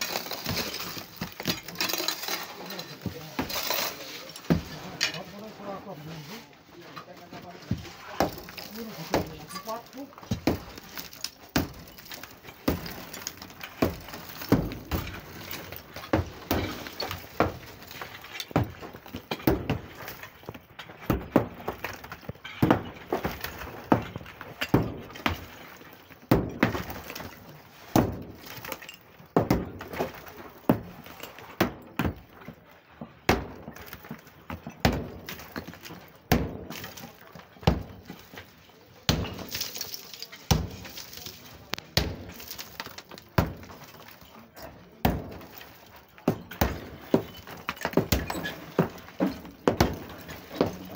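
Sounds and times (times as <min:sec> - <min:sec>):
sledgehammer smashing tiled brick wall: 0:00.0 - 0:05.2, 0:07.7 - 0:32.6, 0:33.2 - 0:50.9
rubble clattering down: 0:00.0 - 0:05.3, 0:07.6 - 0:50.9.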